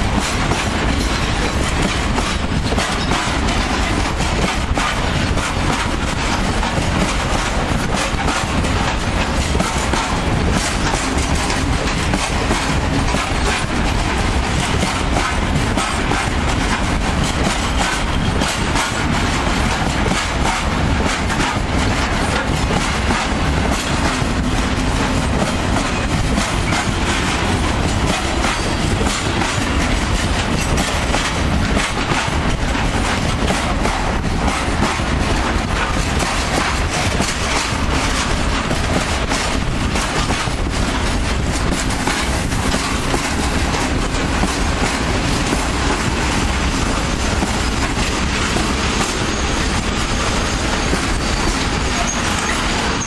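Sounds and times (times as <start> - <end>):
wagon wheels running on rails: 0.0 - 53.0
wheels clicking over rail joints: 0.0 - 53.0.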